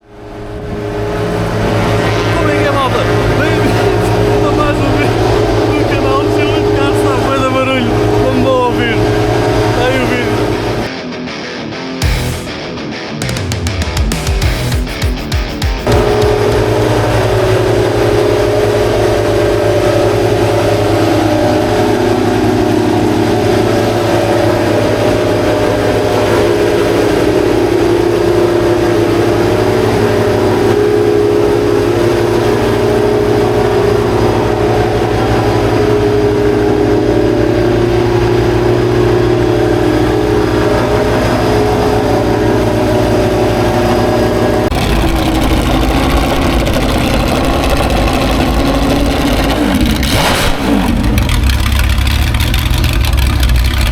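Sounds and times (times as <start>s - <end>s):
racing car engines idling: 0.0s - 10.9s, 12.0s - 53.9s.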